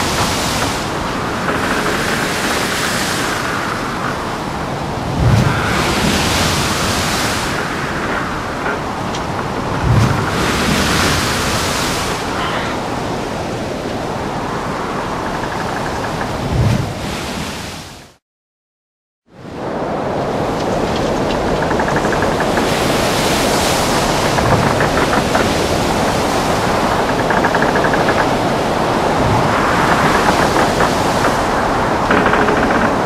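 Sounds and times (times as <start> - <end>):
wind and breaking waves: 0.0 - 18.2, 19.3 - 33.0.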